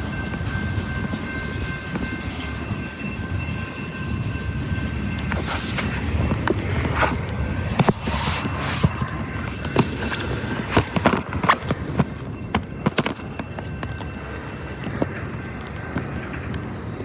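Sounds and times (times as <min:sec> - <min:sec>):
train rolling rumble: 0:00.0 - 0:17.0
train wheels clacking: 0:00.0 - 0:17.0.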